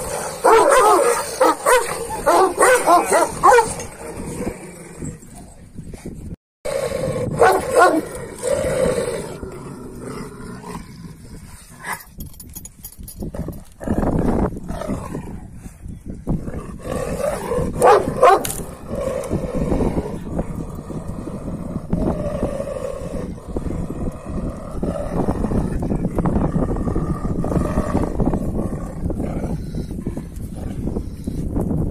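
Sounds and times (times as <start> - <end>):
dogs growling and barking: 0.0 - 5.7, 6.7 - 12.2, 13.3 - 15.6, 16.3 - 31.2.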